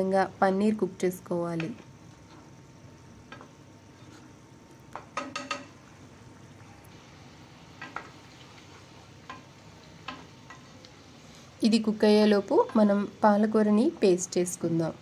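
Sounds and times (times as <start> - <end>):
low sizzle: 0.0 - 15.0.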